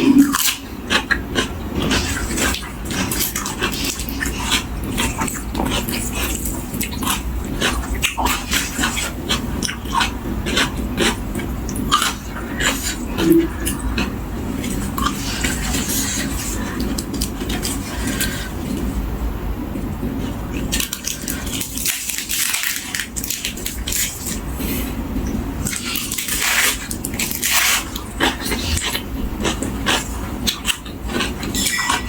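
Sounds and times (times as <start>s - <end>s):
crunchy chewing: 0.0s - 19.0s, 20.2s - 25.0s, 25.6s - 32.0s
steady low hum: 0.0s - 32.0s.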